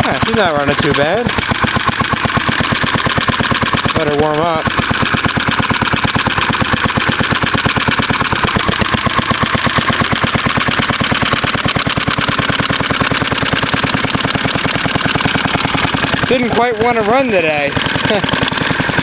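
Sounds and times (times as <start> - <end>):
stationary engine running: 0.0 - 19.0.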